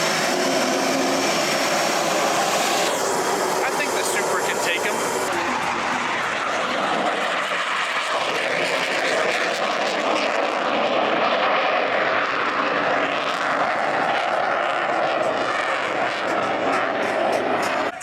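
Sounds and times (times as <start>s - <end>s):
fighter jet engine roaring: 0.0s - 18.0s.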